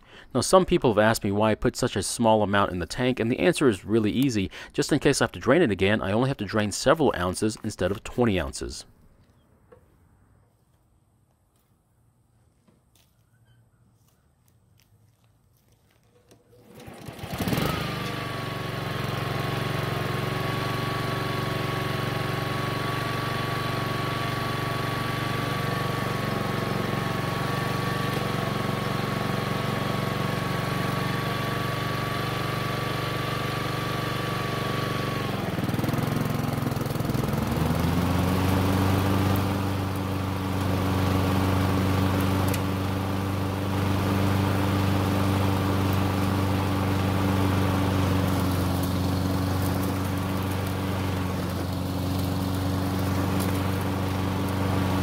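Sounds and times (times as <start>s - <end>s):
lawn mower engine running: 2.2s - 8.8s, 16.5s - 55.0s.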